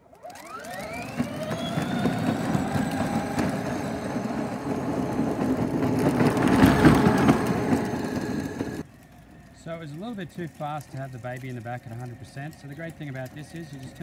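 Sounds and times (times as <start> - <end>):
electric motors whining: 0.0 - 14.0
tyre noise on pavement: 0.3 - 14.0.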